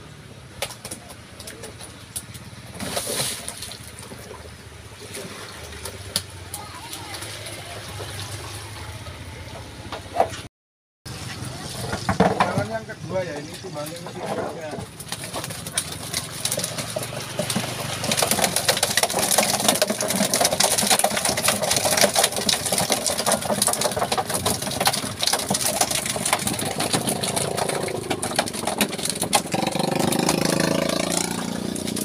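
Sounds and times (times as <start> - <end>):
fish splashing in water: 0.4 - 9.8, 14.8 - 32.0.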